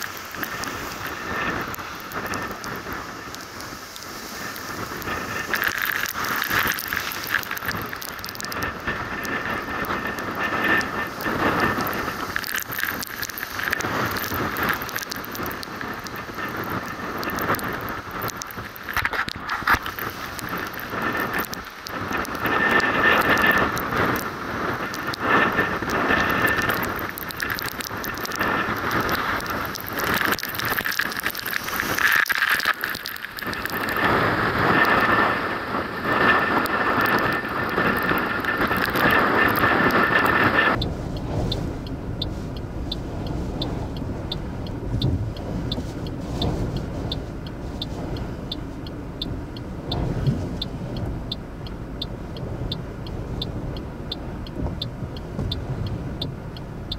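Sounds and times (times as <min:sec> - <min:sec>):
waves breaking over rocks: 0:00.0 - 0:56.2
gale-force wind: 0:00.0 - 0:56.9
rain and spray on microphone: 0:00.0 - 0:56.9.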